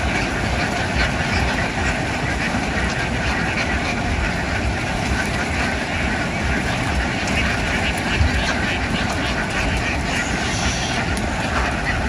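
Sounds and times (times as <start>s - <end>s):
flock of ducks quacking: 0.0s - 12.0s.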